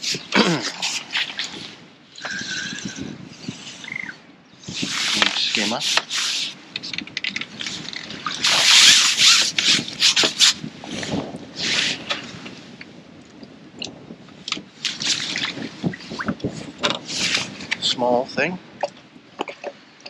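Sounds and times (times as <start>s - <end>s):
water splashing and sloshing: 0.0s - 17.9s, 18.7s - 20.0s.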